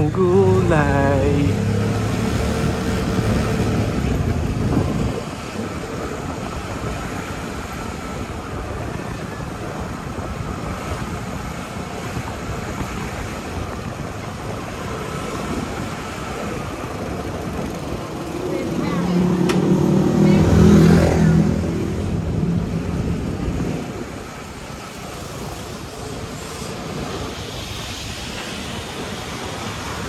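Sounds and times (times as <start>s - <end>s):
small vehicle engine humming: 0.0s - 30.0s
wind noise on microphone: 0.0s - 30.0s.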